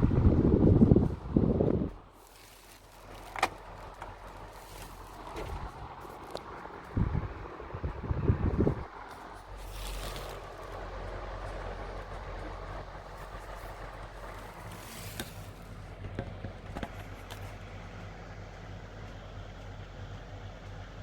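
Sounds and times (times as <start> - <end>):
fan humming: 0.0 - 21.0.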